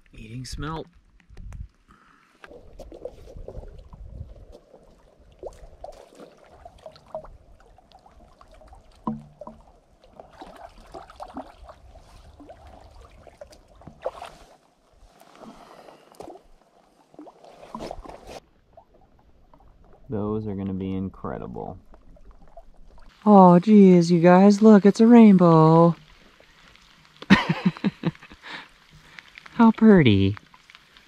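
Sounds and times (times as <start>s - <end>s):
water splashing and trickling: 0.1s - 31.0s.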